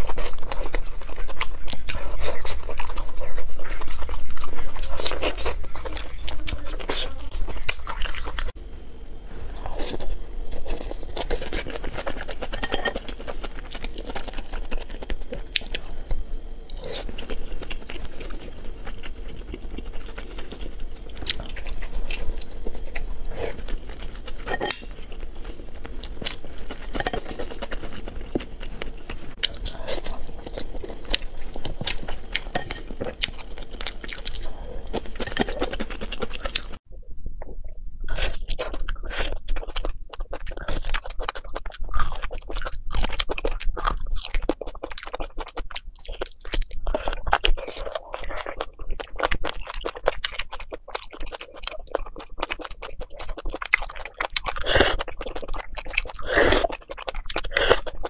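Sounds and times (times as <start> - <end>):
wet chewing: 9.7 - 36.8, 38.1 - 58.0.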